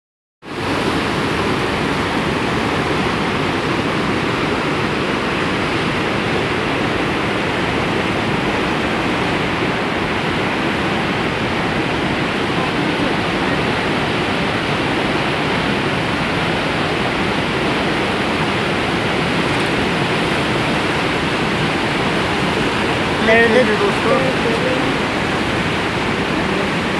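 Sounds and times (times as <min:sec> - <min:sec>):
river rushing over boulders: 0:00.5 - 0:26.9.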